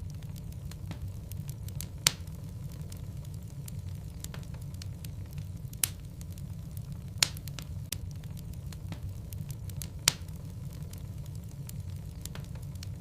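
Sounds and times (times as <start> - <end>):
fire crackling: 0.0 - 13.0
fire low rumble: 0.0 - 13.0.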